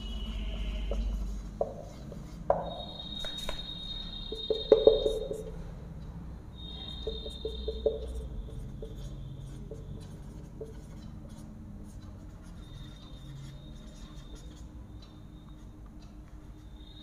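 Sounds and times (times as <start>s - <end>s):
marker writing on whiteboard: 0.0s - 5.6s, 6.6s - 17.0s.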